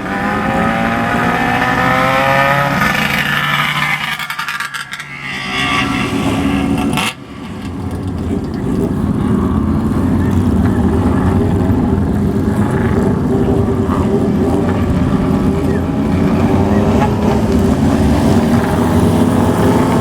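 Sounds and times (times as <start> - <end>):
motorcycle exhaust note: 0.0 - 20.0.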